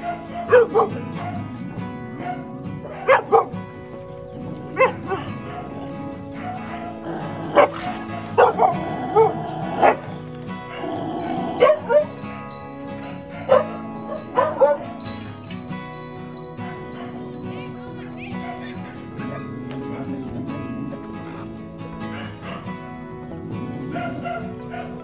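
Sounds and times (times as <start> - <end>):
background music: 0.0 - 25.0
dogs barking and yelping: 0.0 - 25.0.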